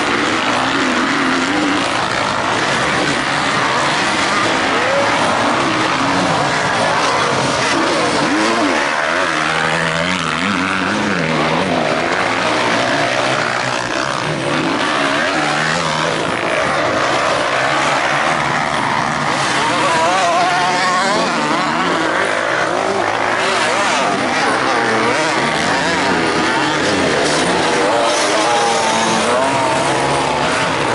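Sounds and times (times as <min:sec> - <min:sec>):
motocross bikes revving: 0:00.0 - 0:30.9.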